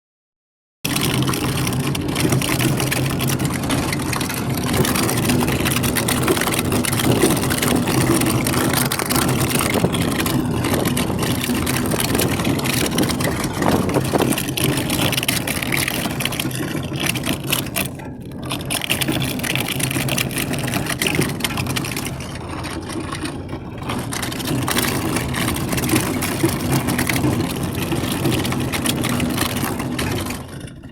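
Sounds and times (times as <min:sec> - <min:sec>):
car engine and road noise: 0:00.8 - 0:30.9.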